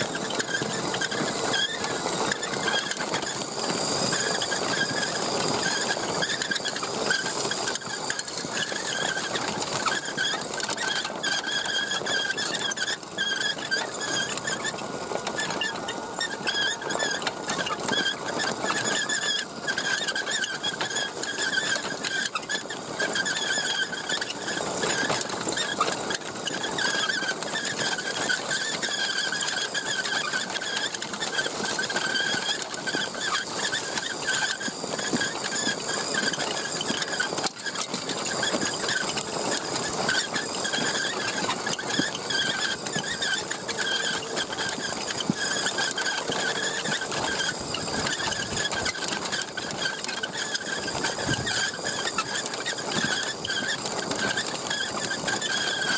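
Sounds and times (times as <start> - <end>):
rc truck motor whine: 0.0 - 55.9.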